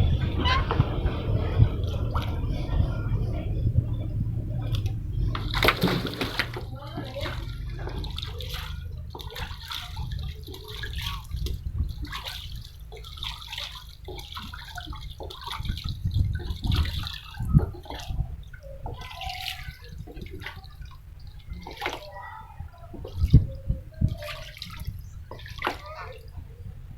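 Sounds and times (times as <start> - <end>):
water splashing and dripping: 0.0 - 26.9.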